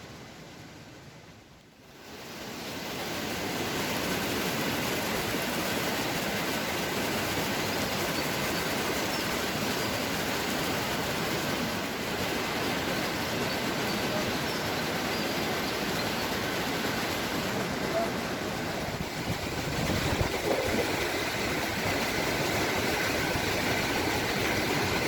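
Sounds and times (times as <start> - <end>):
waterfall rushing water: 1.9 - 25.0.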